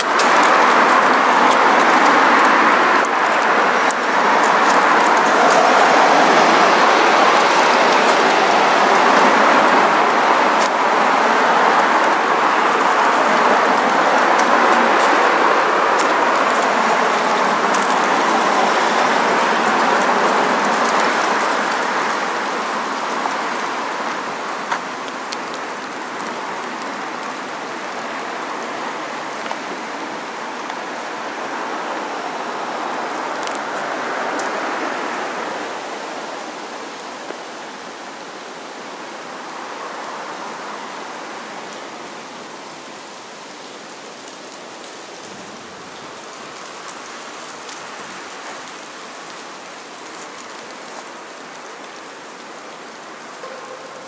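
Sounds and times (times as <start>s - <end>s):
steady street rushing noise: 0.0s - 54.0s.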